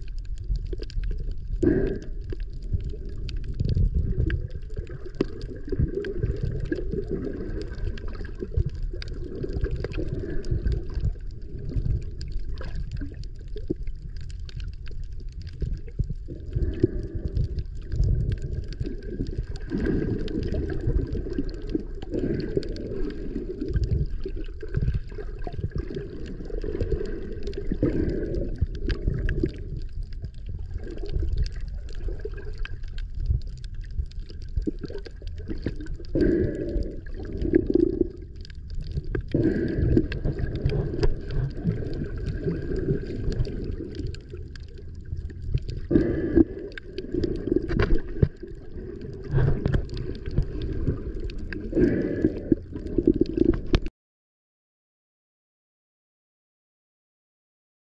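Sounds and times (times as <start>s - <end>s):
muffled underwater water rumbling: 0.0s - 53.9s.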